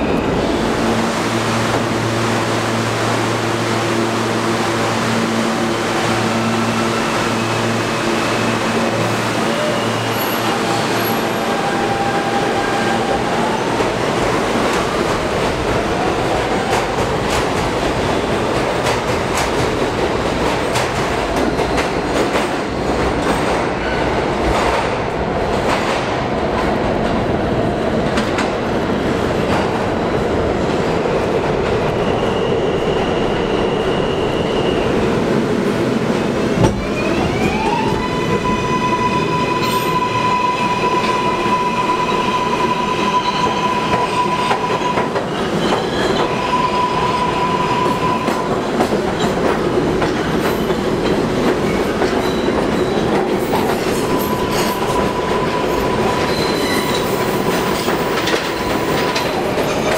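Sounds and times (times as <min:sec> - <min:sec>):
subway train wheels rumbling: 0:00.0 - 0:59.9.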